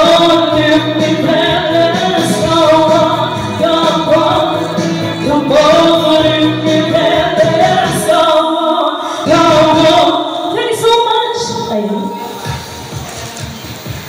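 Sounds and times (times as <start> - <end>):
woman singing: 0.0 - 12.6
musical accompaniment: 0.0 - 14.0.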